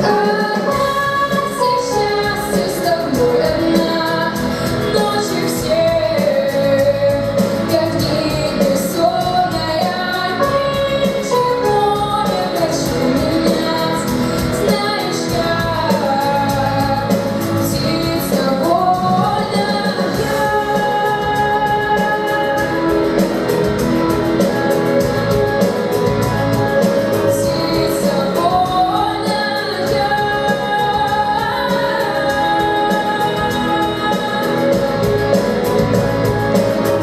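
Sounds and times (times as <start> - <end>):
instrumental accompaniment: 0.0 - 37.0
woman singing: 0.0 - 37.0.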